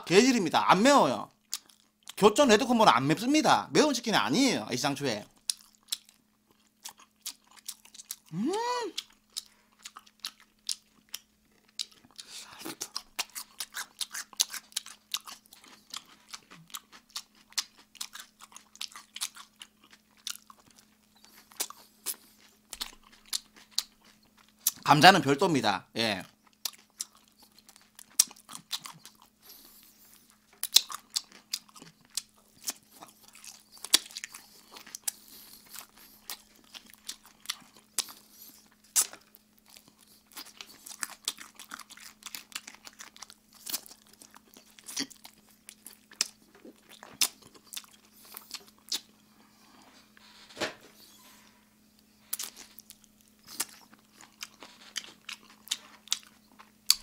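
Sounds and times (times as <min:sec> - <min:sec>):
faint steady hum: 0:00.0 - 0:57.0
crunching fried chicken: 0:05.2 - 0:24.9, 0:26.0 - 0:49.5, 0:52.2 - 0:57.0.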